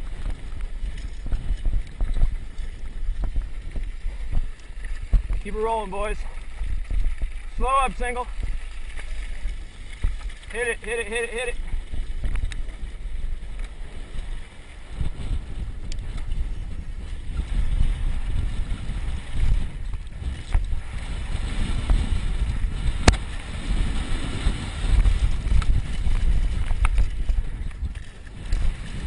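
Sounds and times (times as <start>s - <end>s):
bike rattling over dirt trail: 0.0s - 29.0s
wind buffeting microphone: 0.0s - 29.0s.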